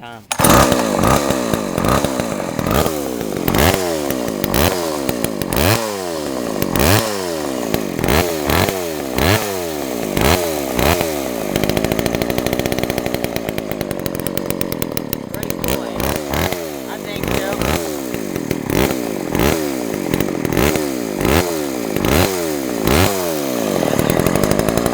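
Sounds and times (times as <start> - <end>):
chainsaw engine revving: 0.2 - 24.9.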